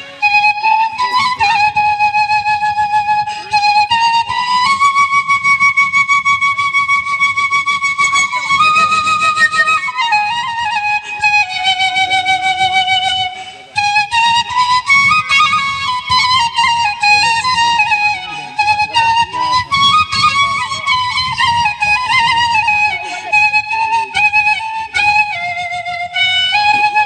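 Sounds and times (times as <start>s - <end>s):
solo flute folk melody: 0.0s - 27.0s.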